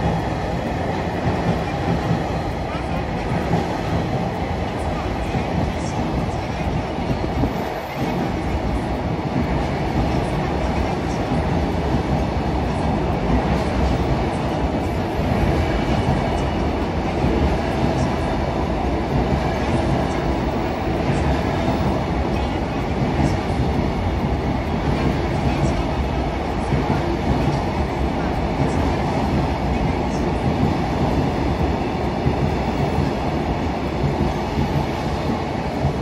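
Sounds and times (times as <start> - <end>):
train wheels rumbling: 0.0 - 36.0.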